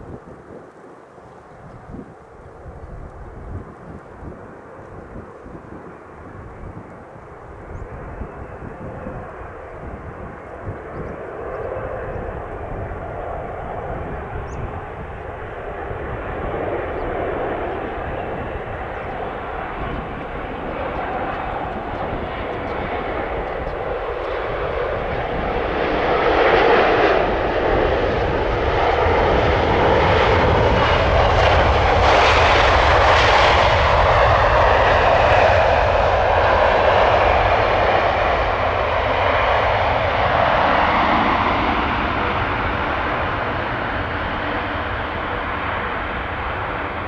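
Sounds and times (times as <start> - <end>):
jet engines rushing: 0.0 - 47.0.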